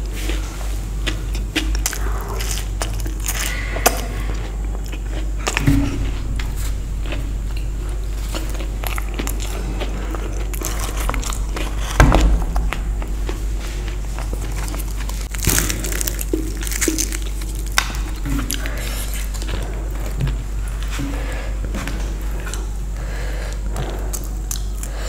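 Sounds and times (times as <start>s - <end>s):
person chewing crunchy food: 0.0s - 25.0s
steady low hum: 0.0s - 25.0s.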